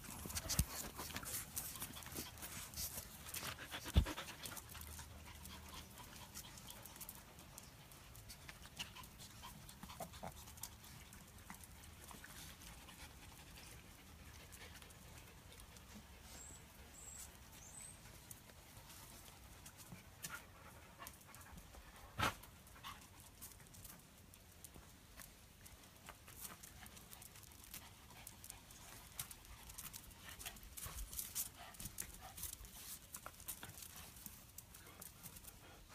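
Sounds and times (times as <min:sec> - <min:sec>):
dogs panting: 0:00.0 - 0:35.9.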